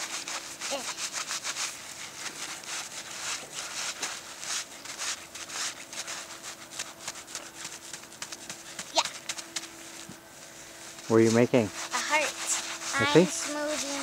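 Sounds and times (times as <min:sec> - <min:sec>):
hands scraping packed snow: 0:00.0 - 0:14.0.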